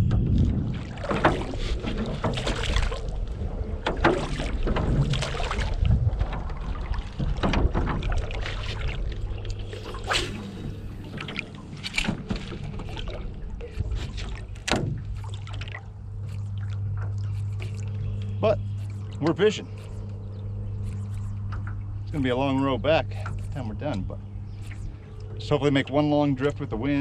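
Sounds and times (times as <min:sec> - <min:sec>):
oars clunking in oarlocks: 0:00.0 - 0:27.0
wind rumble on microphone: 0:00.0 - 0:27.0
oars splashing in water: 0:00.2 - 0:26.7.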